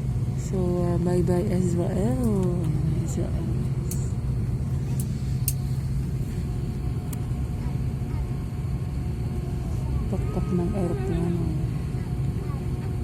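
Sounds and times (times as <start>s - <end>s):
airliner cabin hum and rumble: 0.0s - 13.0s.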